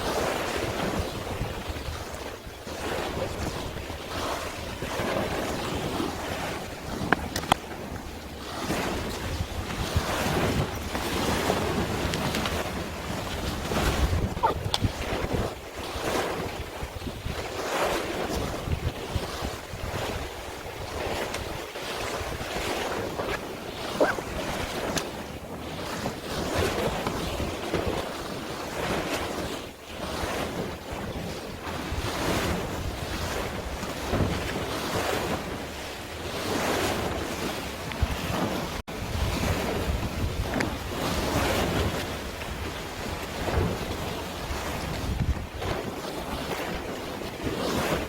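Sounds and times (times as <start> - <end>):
sea waves: 0.0 - 48.0
wind buffeting microphone: 0.0 - 48.0.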